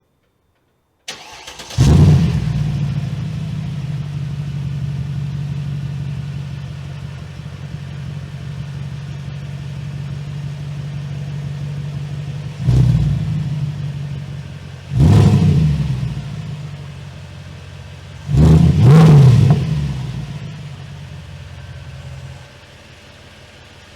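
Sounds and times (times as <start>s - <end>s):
engine revving: 1.1s - 22.5s
car engine starting and idling: 1.1s - 23.9s.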